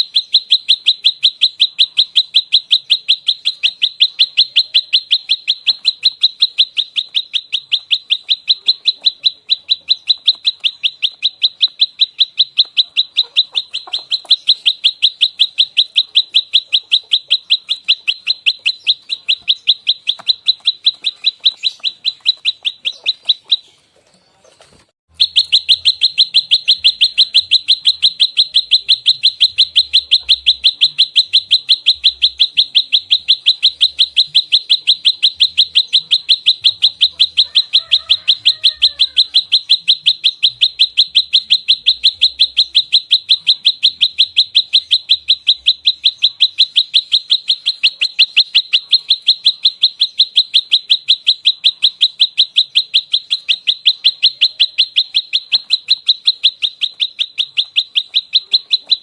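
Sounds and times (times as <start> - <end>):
bird rapid high chips: 0.0 - 23.9, 24.6 - 59.0.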